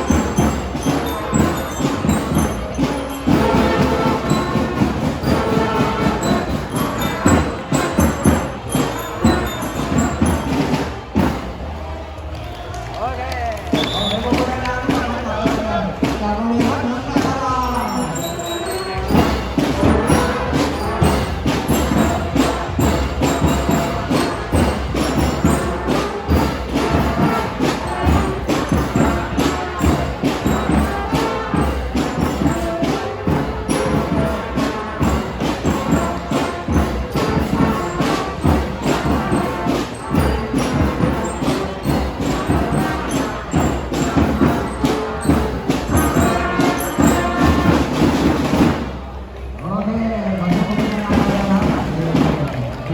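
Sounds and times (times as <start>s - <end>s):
music with fast percussion beat: 0.0s - 11.8s, 12.4s - 49.2s.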